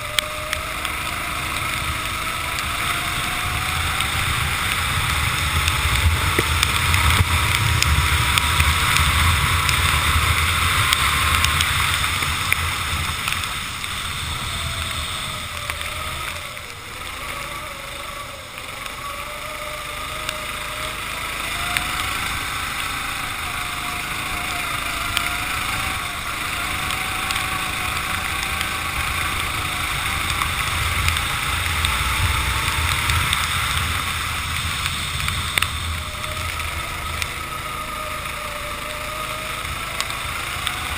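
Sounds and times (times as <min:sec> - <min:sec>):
kart engine at speed: 0:00.0 - 0:40.9
wind rumble on microphone: 0:00.0 - 0:40.9.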